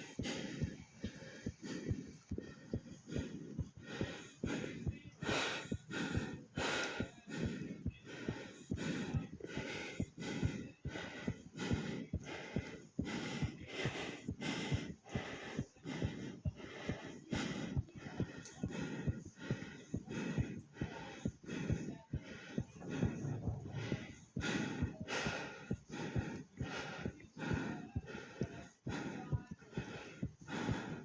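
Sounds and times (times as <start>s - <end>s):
fast heartbeat thumping: 0.0s - 31.0s
heavy breathing: 0.0s - 31.0s.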